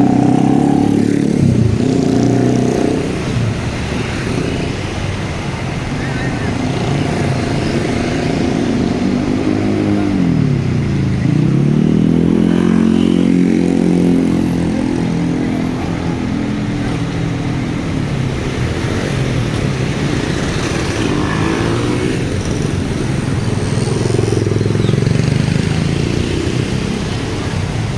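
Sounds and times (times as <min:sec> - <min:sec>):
bus engine pulling away: 0:00.0 - 0:27.9.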